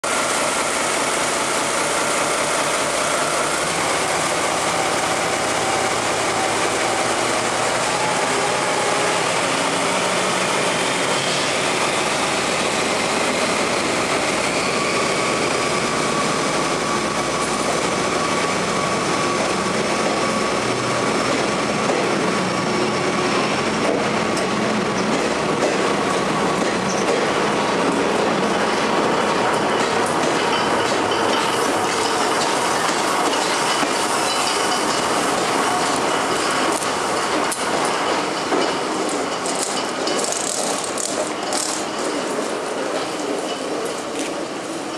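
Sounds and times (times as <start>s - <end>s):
diesel locomotive engine: 0.0s - 44.9s.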